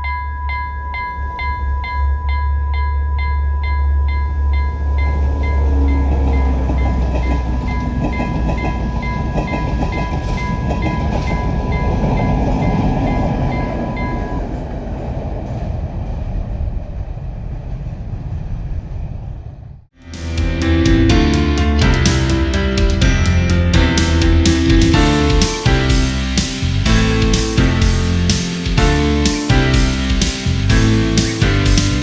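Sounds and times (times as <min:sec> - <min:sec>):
rail noise: 0:00.0 - 0:32.0
train engine rumble: 0:04.6 - 0:32.0.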